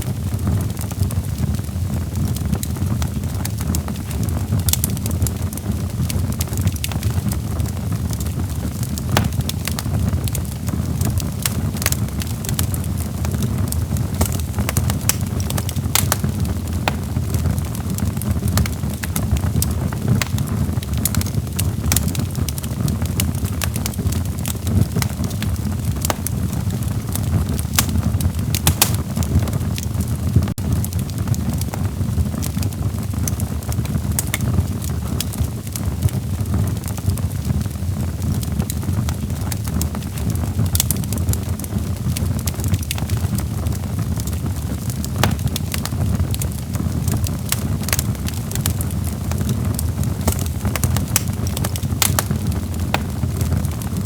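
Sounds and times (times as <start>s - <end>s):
logs burning in fireplace: 0.0s - 54.0s
wood crackling and popping: 0.0s - 54.0s.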